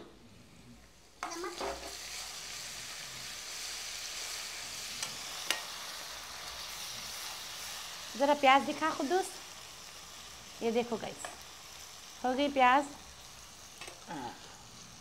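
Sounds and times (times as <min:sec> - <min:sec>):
onions sizzling in oil: 0:00.9 - 0:15.0.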